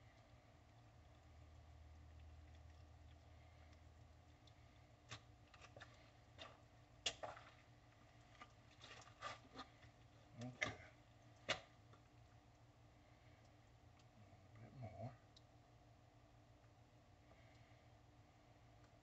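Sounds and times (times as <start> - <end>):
faint clicks and smacks: 0.0 - 14.6, 15.2 - 15.6, 18.7 - 19.0.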